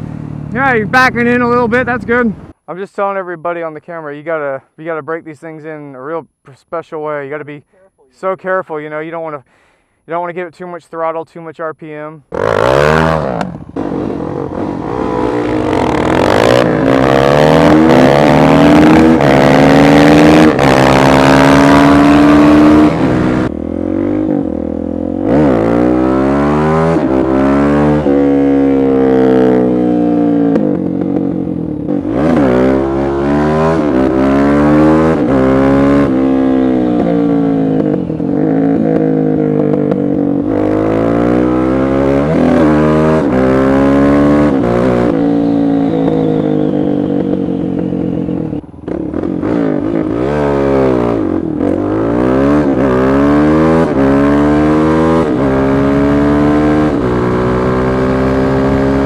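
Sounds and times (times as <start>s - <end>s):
motorcycle engine accelerating: 0.0s - 2.5s, 12.3s - 59.0s.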